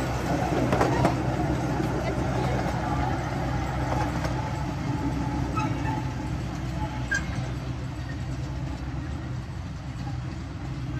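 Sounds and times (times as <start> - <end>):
miniature locomotive engine hum: 0.0 - 10.9
wheels rumbling on track: 0.0 - 10.9.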